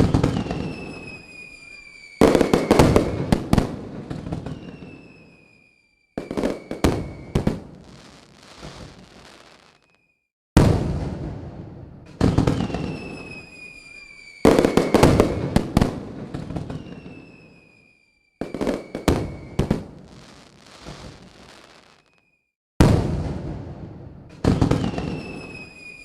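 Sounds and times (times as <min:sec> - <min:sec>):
firework cracks: 0:00.0 - 0:05.6, 0:06.2 - 0:17.6, 0:18.4 - 0:26.0
firework whistle: 0:00.0 - 0:10.3, 0:12.2 - 0:22.5, 0:24.4 - 0:26.0
fireworks bangs: 0:00.0 - 0:26.0.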